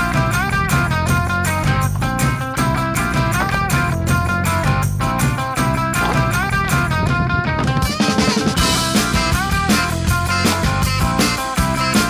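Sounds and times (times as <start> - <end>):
rock electric guitar music: 0.0 - 12.0.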